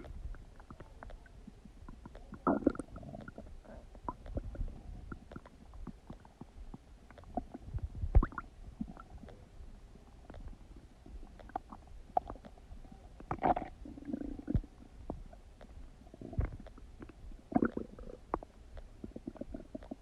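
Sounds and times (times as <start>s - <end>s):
stomach gurgling and rumbling: 0.0s - 20.0s.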